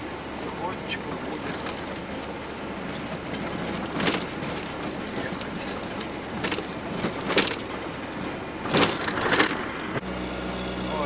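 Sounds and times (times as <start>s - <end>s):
van road and engine noise: 0.0s - 11.0s
sharp rattles: 1.0s - 10.0s.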